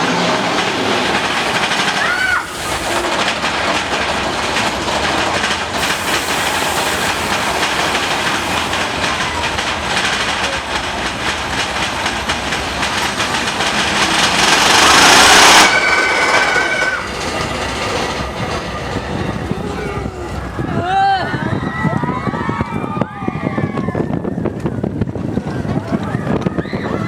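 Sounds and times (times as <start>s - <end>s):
roller coaster wheels clattering: 0.0s - 27.0s.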